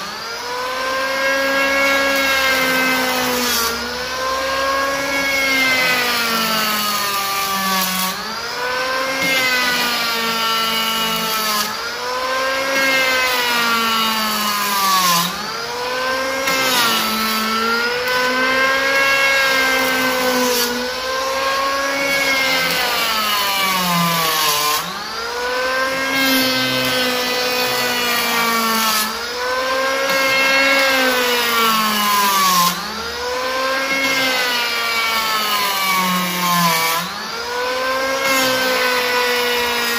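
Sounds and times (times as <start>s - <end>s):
electric planer shaving wood: 0.0s - 39.9s.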